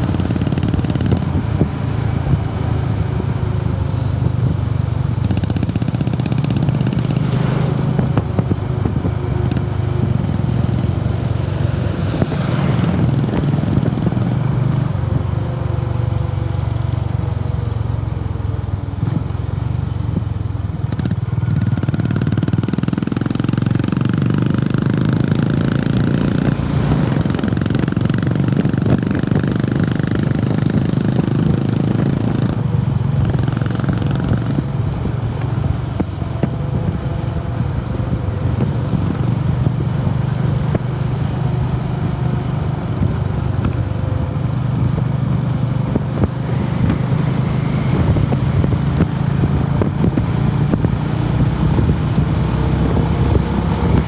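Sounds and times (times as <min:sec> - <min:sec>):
wind noise: 0:00.0 - 0:17.0, 0:20.1 - 0:54.0
motorcycle engine running: 0:00.0 - 0:54.0.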